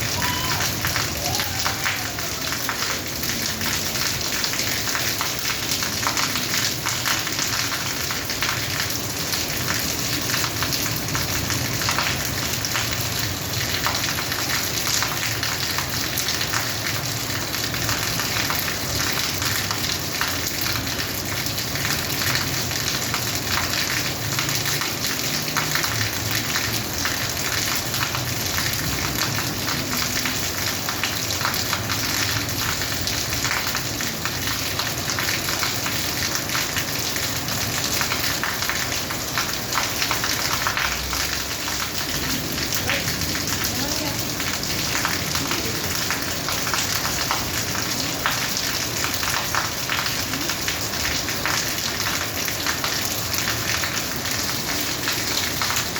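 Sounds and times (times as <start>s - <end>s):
rain falling on a rooftop: 0.0s - 55.9s.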